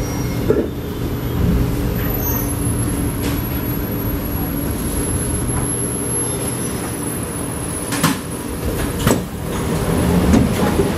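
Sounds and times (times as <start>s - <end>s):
train equipment humming: 0.0s - 10.9s.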